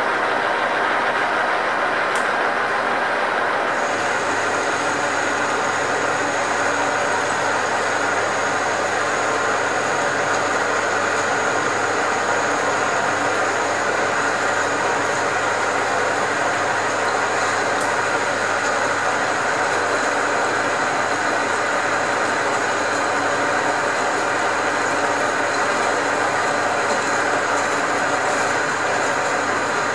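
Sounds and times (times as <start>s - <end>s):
metal lathe cutting: 3.7s - 29.9s.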